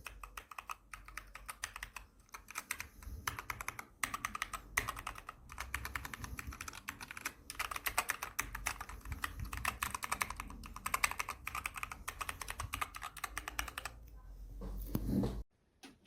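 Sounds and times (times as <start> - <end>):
clicky keyboard typing: 0.0 - 14.1.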